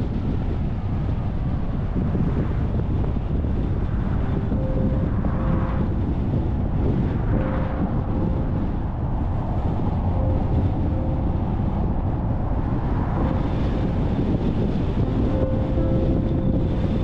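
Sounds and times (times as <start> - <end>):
tyre and road noise: 0.0 - 17.0
wind rushing over microphone: 0.0 - 17.0.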